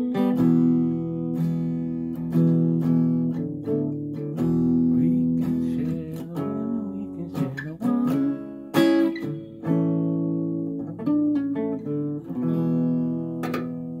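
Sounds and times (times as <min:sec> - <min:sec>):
acoustic guitar strummed: 0:00.0 - 0:14.0.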